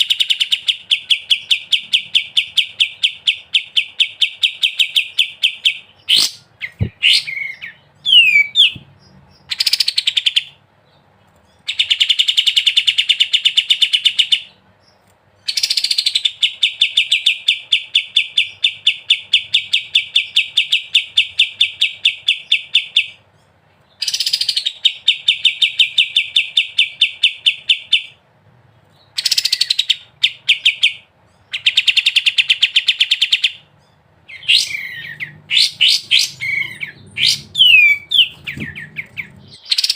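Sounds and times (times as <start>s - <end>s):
bird singing rapid chattering song: 0.0s - 39.9s.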